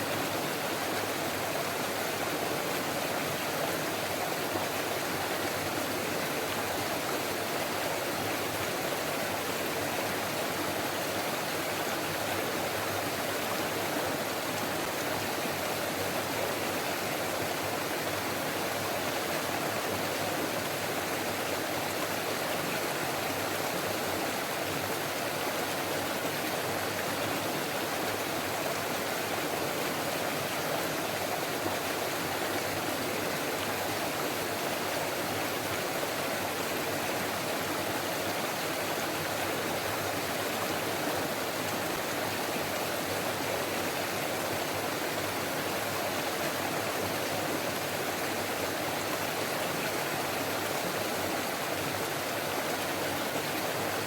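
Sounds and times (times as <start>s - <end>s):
stream babbling over rocks: 0.0s - 54.0s.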